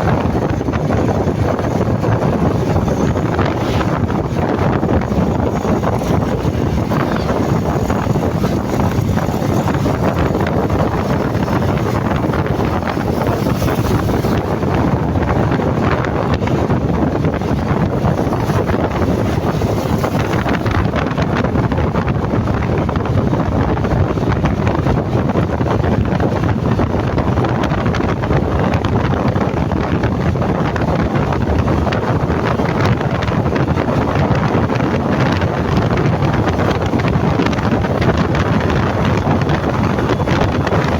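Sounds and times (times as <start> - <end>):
motorcycle road and engine noise: 0.0 - 40.9
wind rushing over microphone: 0.0 - 40.9.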